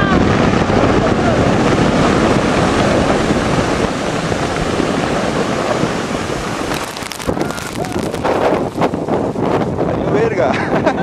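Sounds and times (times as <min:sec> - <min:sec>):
snow and ice avalanche rushing: 0:00.5 - 0:09.8.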